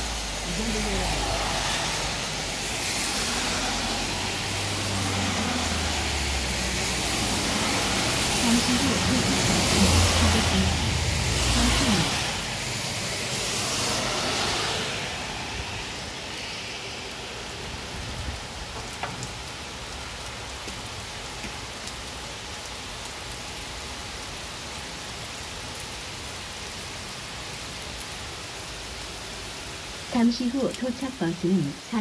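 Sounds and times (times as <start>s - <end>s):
cars passing on wet road: 0.0s - 32.0s
rain falling: 0.0s - 32.0s.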